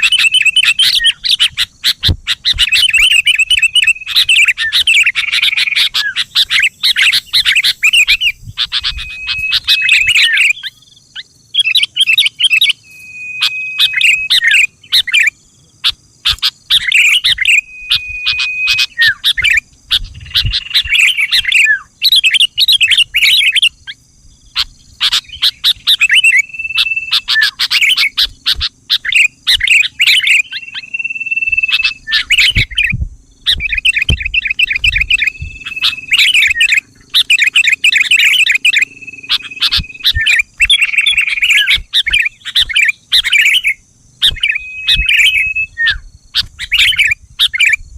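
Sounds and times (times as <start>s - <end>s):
bulbul singing: 0.0s - 47.9s.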